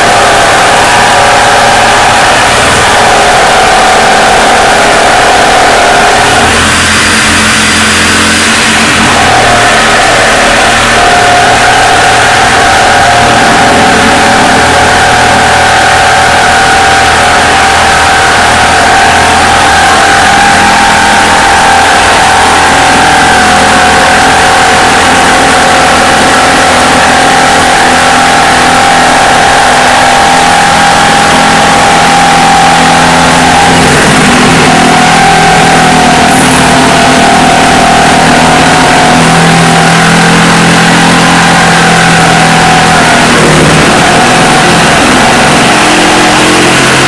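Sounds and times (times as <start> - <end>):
jigsaw cutting through board: 0.0 - 29.1, 30.0 - 47.0.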